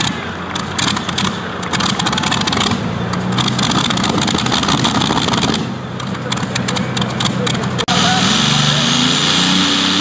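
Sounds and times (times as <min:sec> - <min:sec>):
tractor engine idling: 0:00.0 - 0:08.8.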